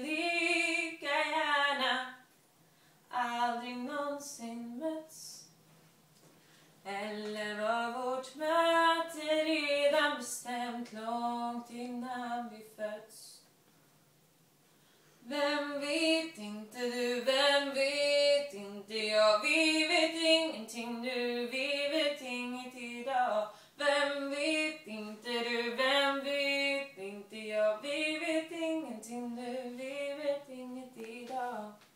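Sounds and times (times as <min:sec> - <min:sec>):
woman singing a cappella: 0:00.0 - 0:02.3, 0:03.1 - 0:05.6, 0:06.8 - 0:13.5, 0:15.2 - 0:31.9.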